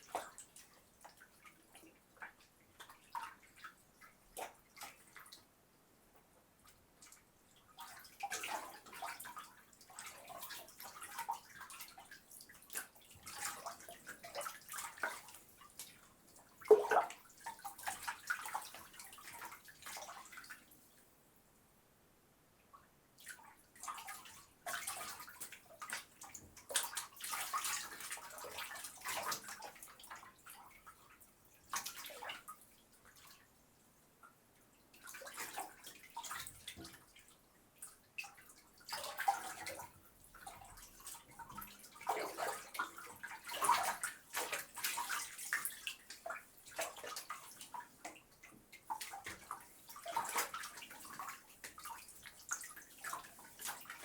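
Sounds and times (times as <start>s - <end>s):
water splashing and sloshing: 0.0s - 5.6s, 6.6s - 21.2s, 23.2s - 33.6s, 34.3s - 54.0s.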